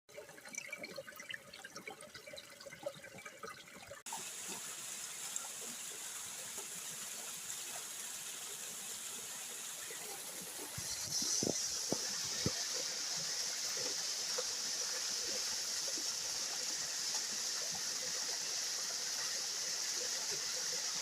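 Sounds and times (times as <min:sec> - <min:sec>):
water trickling with splashes: 0:00.1 - 0:21.0
water rushing: 0:04.1 - 0:21.0.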